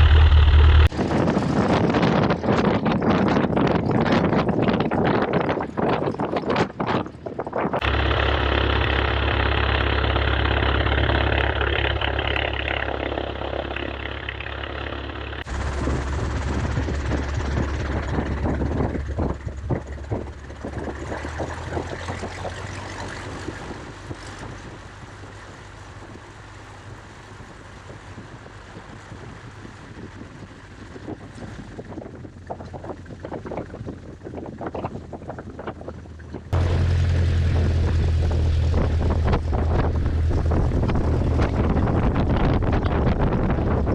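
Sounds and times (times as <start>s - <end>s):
light aircraft engine drone: 0.0s - 4.0s, 7.6s - 43.9s
gusty wind on microphone: 0.0s - 43.9s.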